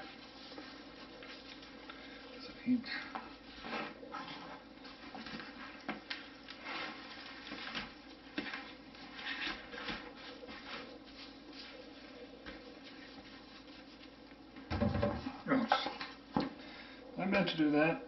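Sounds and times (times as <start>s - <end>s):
hands rubbing meat: 0.0s - 14.6s.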